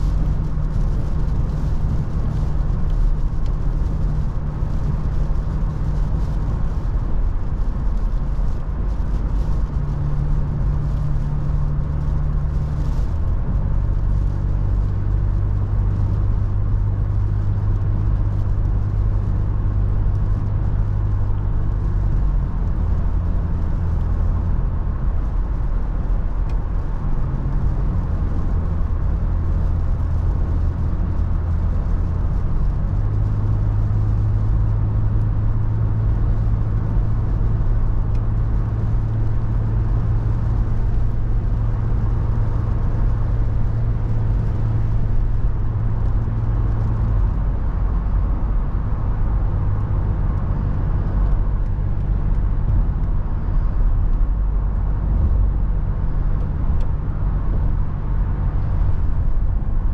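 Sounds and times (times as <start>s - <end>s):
car engine humming: 0.0s - 59.9s
road noise: 0.0s - 59.9s.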